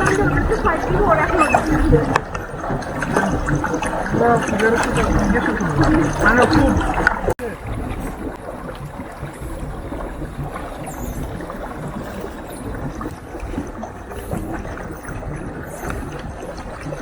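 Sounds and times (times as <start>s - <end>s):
water lapping against boat: 0.0s - 17.0s.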